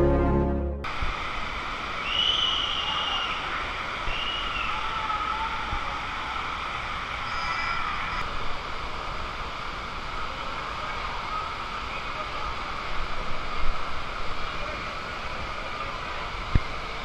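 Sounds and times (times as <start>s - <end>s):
water rushing in slide channel: 1.0s - 17.0s.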